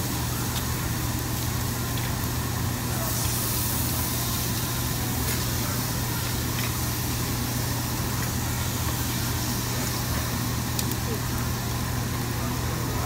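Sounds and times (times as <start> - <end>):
meat sizzling on a grill: 0.0 - 13.0
ventilation fans humming: 0.0 - 13.0.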